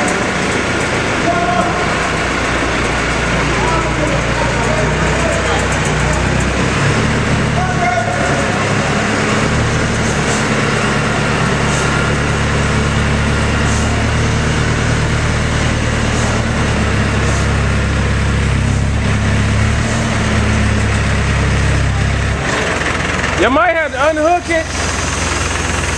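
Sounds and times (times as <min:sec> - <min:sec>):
forklift engine running: 0:00.0 - 0:25.9.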